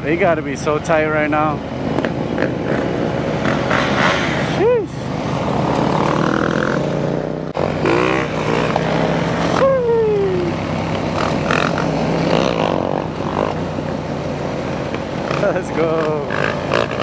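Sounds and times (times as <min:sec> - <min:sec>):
motorcycle engine humming: 0:00.0 - 0:17.0
motorcycles revving: 0:00.0 - 0:17.0.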